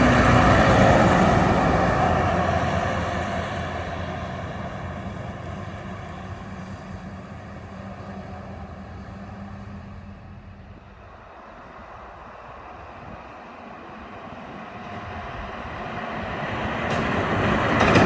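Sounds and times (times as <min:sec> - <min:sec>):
heavy truck driving away: 0:00.0 - 0:18.0.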